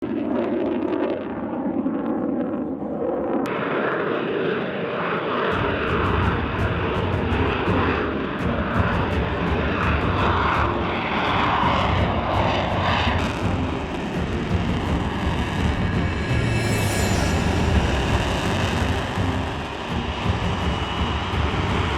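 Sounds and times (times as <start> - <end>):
jet engine roaring: 0.0 - 21.9.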